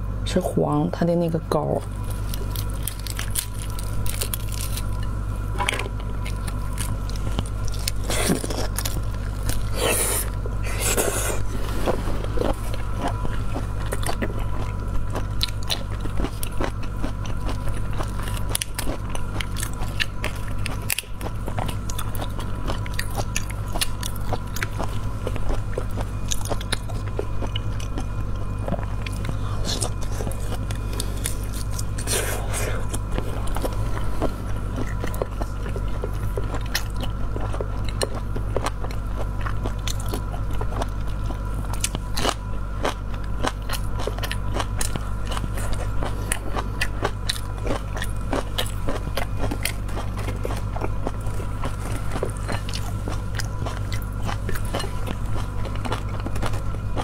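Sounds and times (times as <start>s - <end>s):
steady low hum: 0.0s - 57.0s
biting and chewing: 1.8s - 57.0s.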